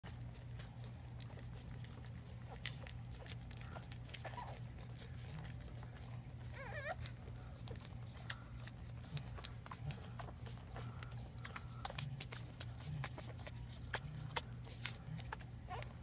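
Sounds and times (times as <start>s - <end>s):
puppies nursing with clicks: 0.0s - 16.0s
steady low hum: 0.0s - 16.0s
faint puppy squeak: 0.1s - 16.0s
puppy whimpering: 0.1s - 16.0s.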